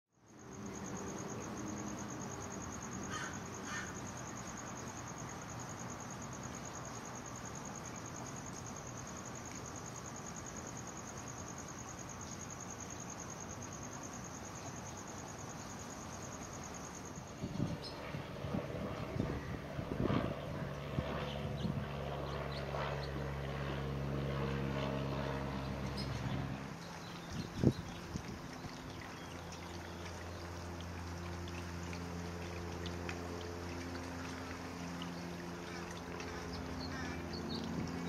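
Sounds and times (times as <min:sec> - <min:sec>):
high-pitched insect trill: 0:00.2 - 0:38.0.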